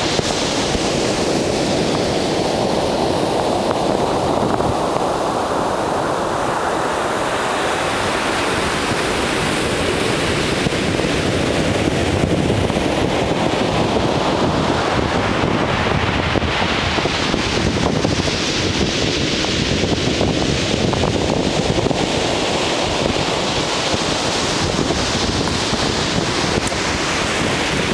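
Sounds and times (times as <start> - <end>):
waves breaking: 0.0 - 27.9
wind buffeting microphone: 0.0 - 27.9.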